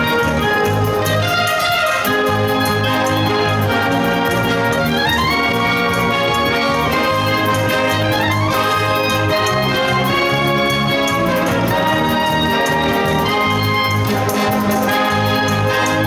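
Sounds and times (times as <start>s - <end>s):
pulsing bass line: 0.0s - 16.0s
wind band playing: 0.0s - 16.0s.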